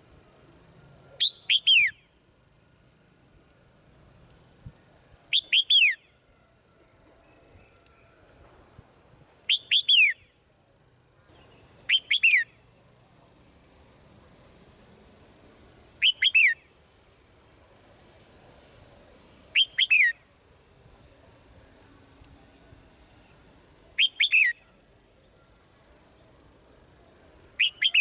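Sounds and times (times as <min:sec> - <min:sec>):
steady high hiss: 0:00.0 - 0:28.0.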